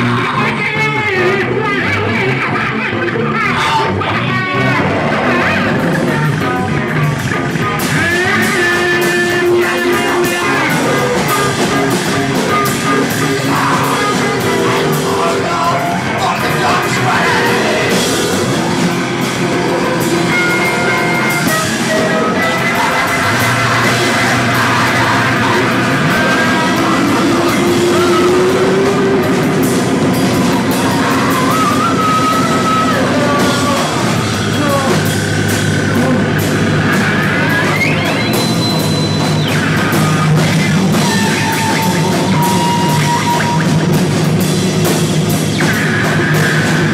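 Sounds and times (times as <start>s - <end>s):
live noise rock band: 0.0s - 46.9s.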